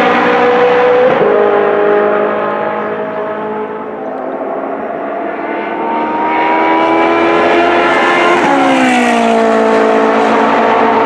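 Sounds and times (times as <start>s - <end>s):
race car engine passing by: 0.0s - 11.0s.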